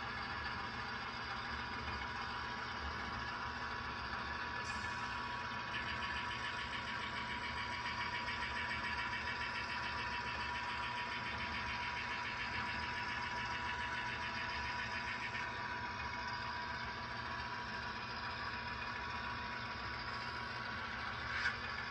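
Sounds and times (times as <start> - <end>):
thin whine: 0.0 - 21.9.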